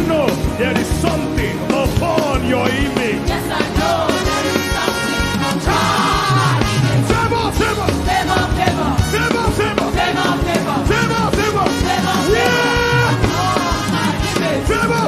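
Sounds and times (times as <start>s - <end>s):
upbeat worship music: 0.0s - 15.0s.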